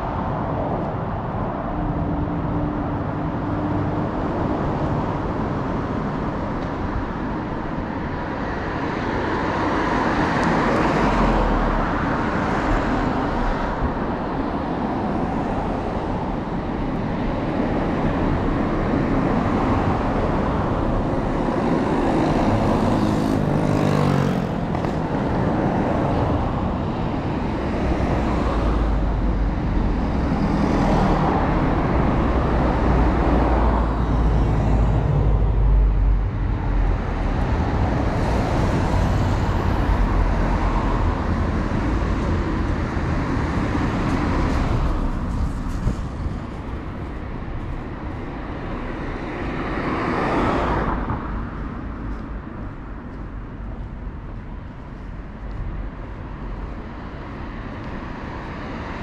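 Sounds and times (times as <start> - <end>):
road traffic: 0.0 - 59.0
vehicles passing: 0.0 - 59.0.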